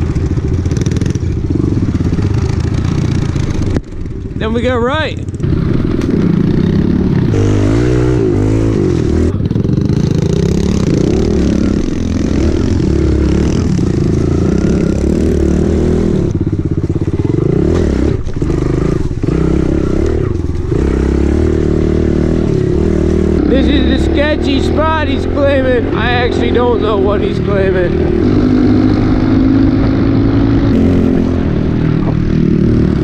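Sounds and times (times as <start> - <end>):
small motorbike engines revving: 0.0 - 33.0.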